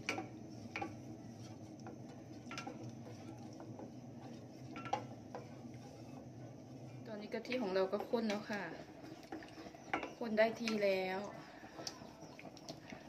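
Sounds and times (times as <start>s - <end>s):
spatula knocking and scraping pan: 0.0s - 13.0s
spatula stirring cream: 0.0s - 13.0s.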